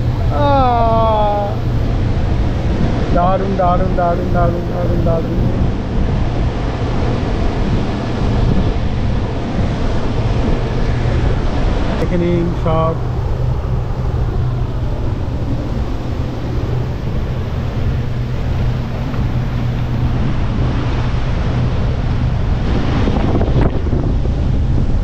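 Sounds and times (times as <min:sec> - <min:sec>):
churning wake water: 0:00.0 - 0:25.0
wind buffeting microphone: 0:00.0 - 0:25.0.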